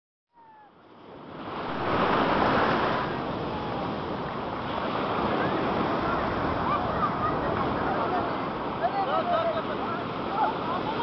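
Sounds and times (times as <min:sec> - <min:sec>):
ocean surf washing: 0:00.4 - 0:11.0.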